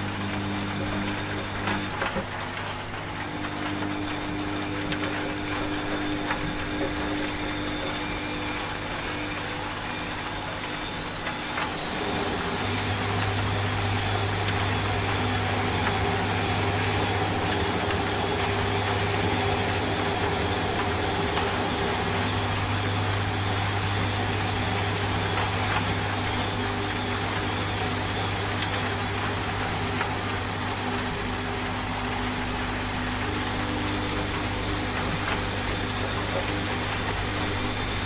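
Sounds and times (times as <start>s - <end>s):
rain hiss: 0.0s - 38.0s
washing machine motor hum: 0.0s - 38.0s.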